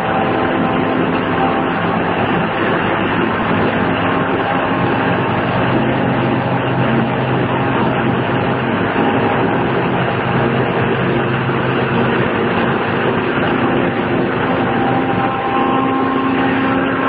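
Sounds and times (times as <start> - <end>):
car engine hum: 0.0 - 17.0
tyre and road noise: 0.0 - 17.0.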